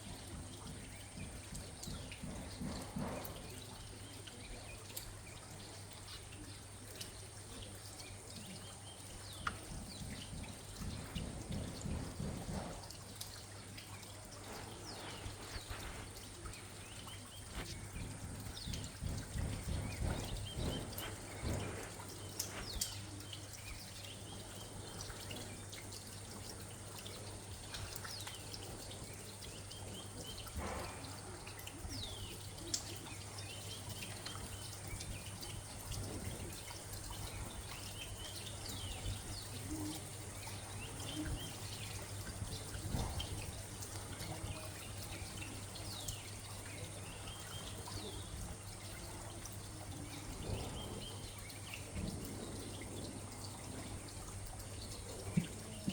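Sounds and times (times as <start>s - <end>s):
rain falling: 0.0s - 55.9s
water dripping and trickling: 0.0s - 55.9s.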